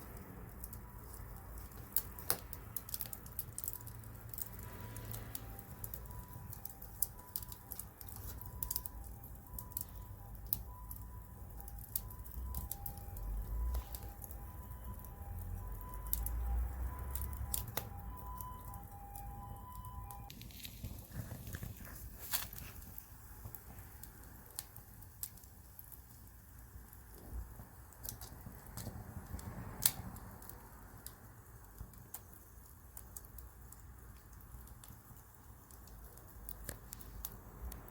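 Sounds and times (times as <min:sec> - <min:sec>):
campfire crackling and popping: 0:00.0 - 0:37.9.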